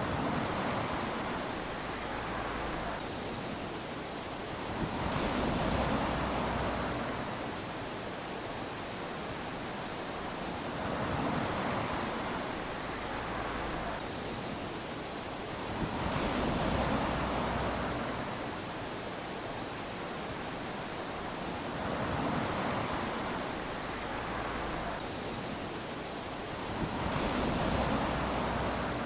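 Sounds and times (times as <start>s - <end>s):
small waves lapping on shore: 0.0s - 29.0s.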